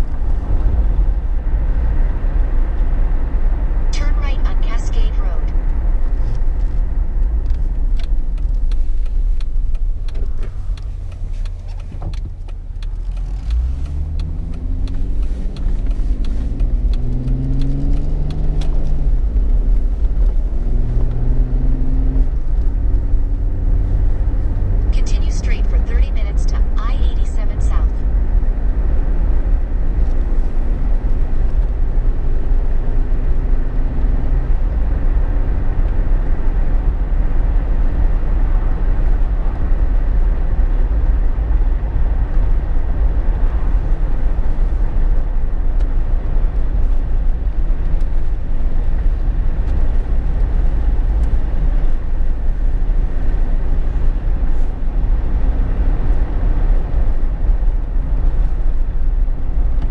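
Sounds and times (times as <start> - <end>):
car interior road rumble: 0.0 - 59.9
faint engine hum: 0.0 - 59.9.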